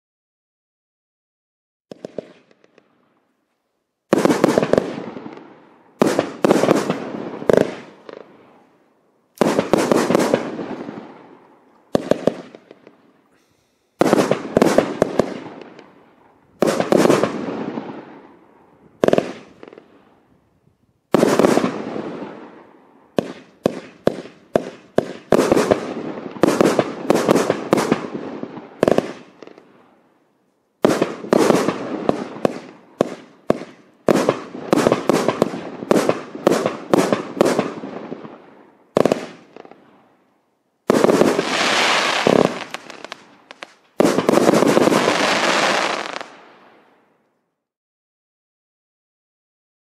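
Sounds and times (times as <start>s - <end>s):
fireworks launching and bursting: 1.9s - 3.2s, 4.0s - 30.1s, 30.8s - 47.2s.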